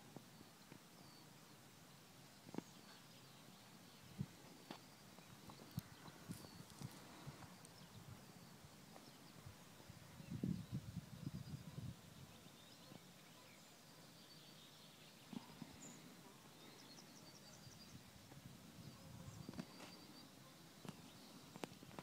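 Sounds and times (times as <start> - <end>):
distant birds chirping: 0.0 - 22.0.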